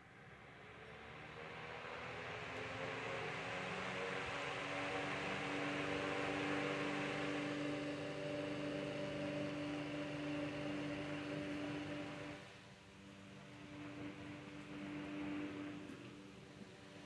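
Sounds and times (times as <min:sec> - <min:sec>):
fan motor hum: 0:00.2 - 0:17.0.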